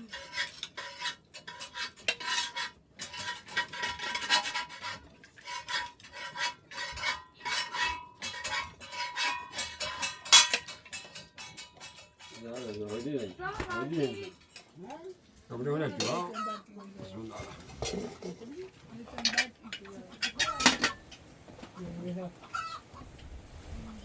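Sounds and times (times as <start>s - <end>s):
metal utensils scraping metal dish: 0.0s - 14.8s, 15.7s - 21.2s.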